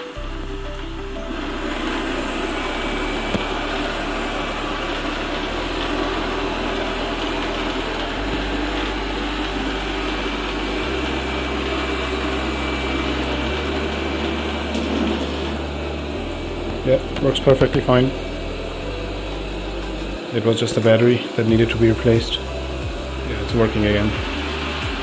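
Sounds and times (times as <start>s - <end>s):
thin high whine: 0.0s - 25.0s
robot vacuum whirring: 1.0s - 25.0s.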